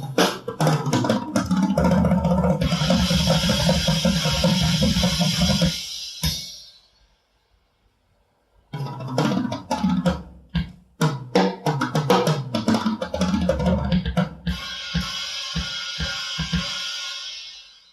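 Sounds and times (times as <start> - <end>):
drum hits across kit: 0.0 - 6.7, 9.0 - 17.2.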